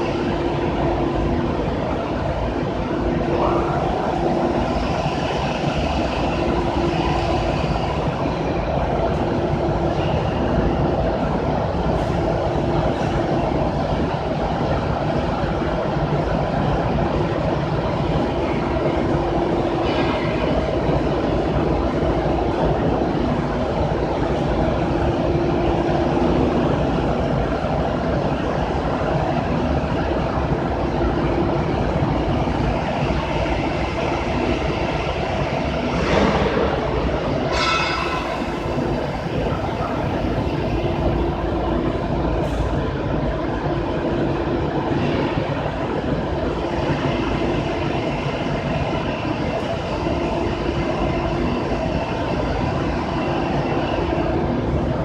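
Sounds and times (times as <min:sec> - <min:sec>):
industrial machine rumbling: 0:00.0 - 0:55.0.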